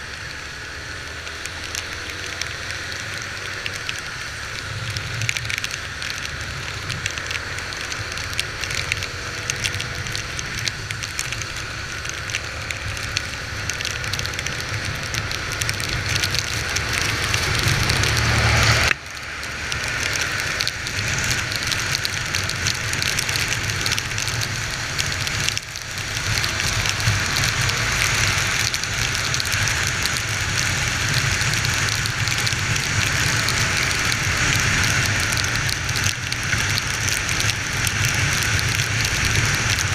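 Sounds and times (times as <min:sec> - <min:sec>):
rain hissing: 0:00.0 - 0:39.9
wind: 0:00.0 - 0:39.9.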